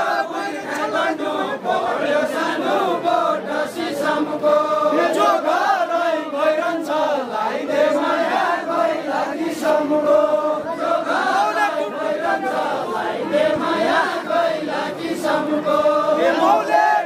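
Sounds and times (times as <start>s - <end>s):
men singing folk song: 0.0s - 17.0s.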